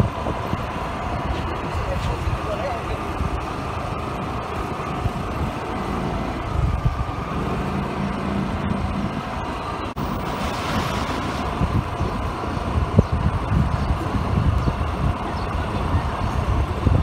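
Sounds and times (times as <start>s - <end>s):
rushing noise: 0.0s - 17.0s
vehicle engine and road rumble: 0.0s - 17.0s.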